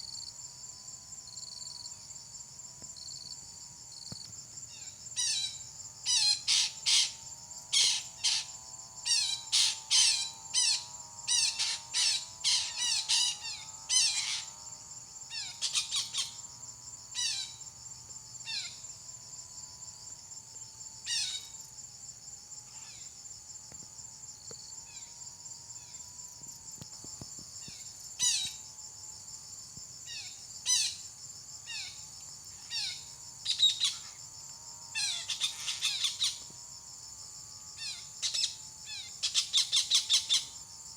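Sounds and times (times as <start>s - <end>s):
high-pitched insect trill: 0.0s - 40.9s.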